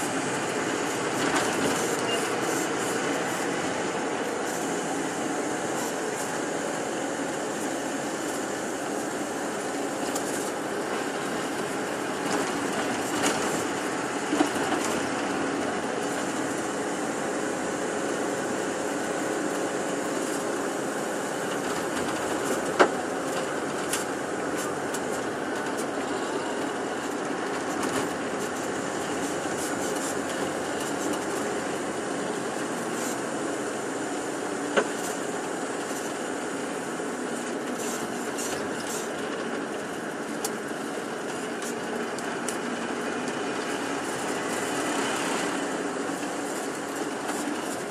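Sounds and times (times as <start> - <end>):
bus engine and road noise: 0.0 - 47.9.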